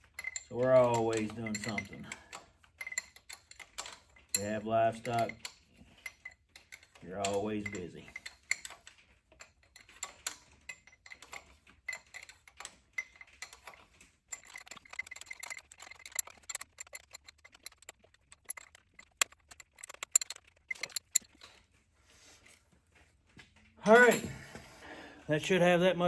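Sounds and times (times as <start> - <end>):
wrench clicking on metal bolts: 0.0 - 21.5.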